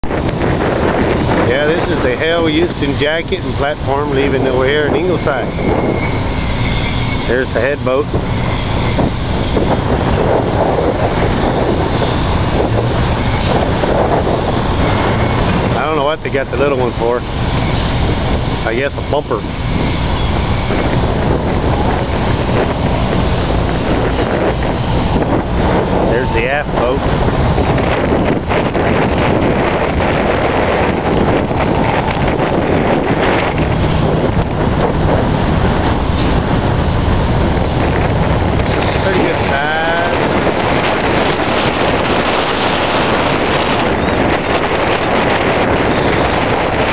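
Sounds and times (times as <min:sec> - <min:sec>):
low engine drone: 0:00.0 - 0:46.9
wind rumbling on microphone: 0:00.0 - 0:46.9.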